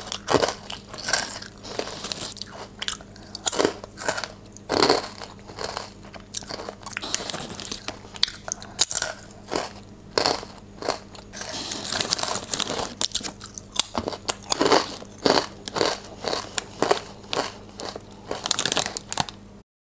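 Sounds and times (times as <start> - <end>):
chips crunching while chewed: 0.0 - 19.4.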